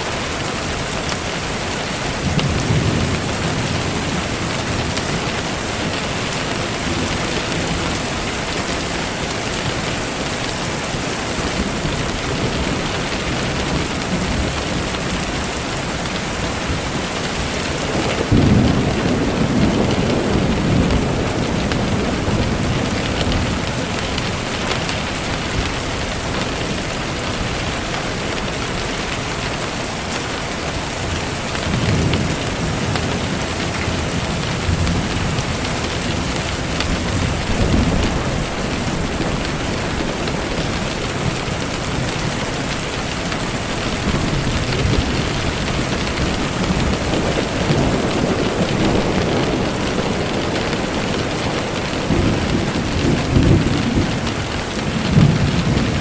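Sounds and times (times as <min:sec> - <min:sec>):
rain falling: 0:00.0 - 0:56.0
low rolls of thunder: 0:02.0 - 0:28.8, 0:31.1 - 0:56.0.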